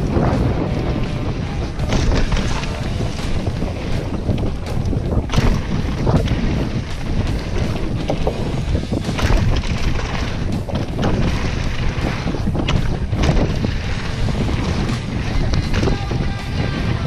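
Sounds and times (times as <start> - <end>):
bike knocks and rattles: 0.0 - 17.0
bike tyres rumbling: 0.0 - 17.0
wind buffeting microphone: 0.0 - 17.0.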